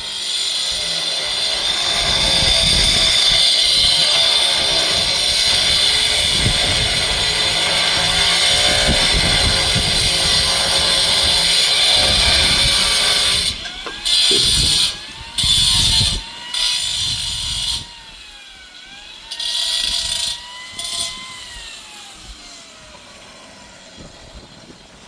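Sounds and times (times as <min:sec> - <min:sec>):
power tool cutting stone: 0:00.0 - 0:25.0.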